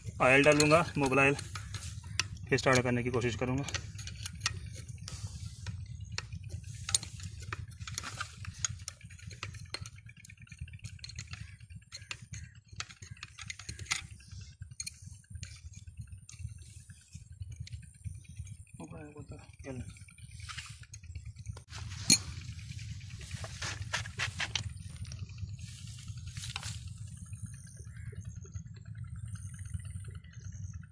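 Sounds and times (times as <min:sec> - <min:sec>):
clicks and taps on engine: 0:00.0 - 0:30.9
low hum: 0:00.0 - 0:30.9.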